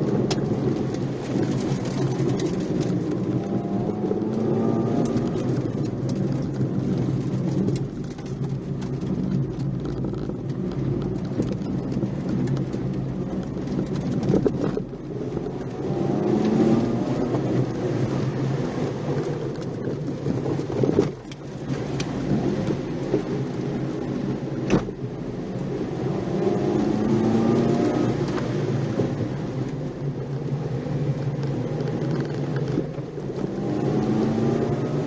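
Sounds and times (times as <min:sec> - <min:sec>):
car engine under load: 0:00.0 - 0:35.0
tyre and road noise: 0:00.0 - 0:35.0.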